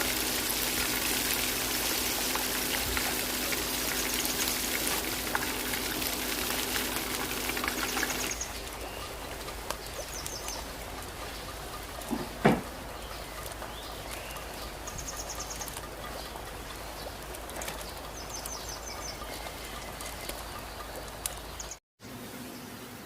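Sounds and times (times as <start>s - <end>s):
oil popping: 0.0s - 21.8s
chicken deep-frying in oil: 0.0s - 23.0s.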